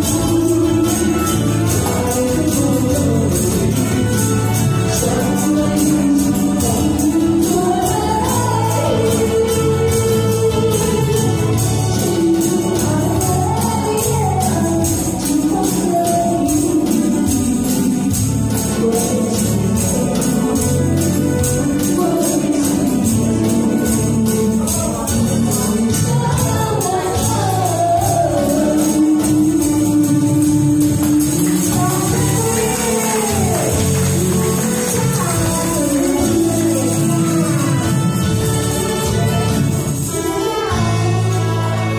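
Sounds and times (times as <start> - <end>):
karaoke backing track: 0.0 - 41.9
tambourines jingling: 0.0 - 41.9
woman singing into microphone: 0.0 - 41.9.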